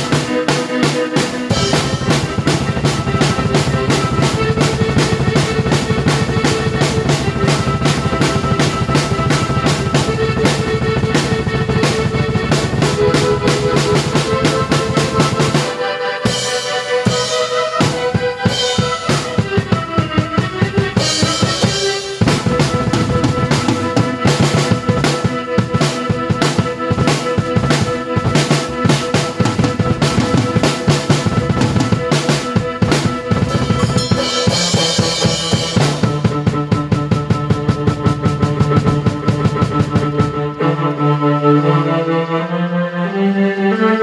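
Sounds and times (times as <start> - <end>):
drum kit groove: 0.0 - 40.7
held keyboard notes: 0.0 - 44.0.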